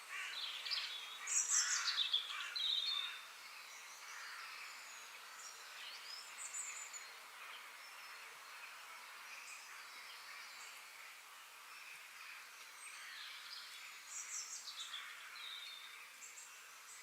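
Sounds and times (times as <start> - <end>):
faint background hiss: 0.0 - 17.0
songbird singing: 0.0 - 17.0.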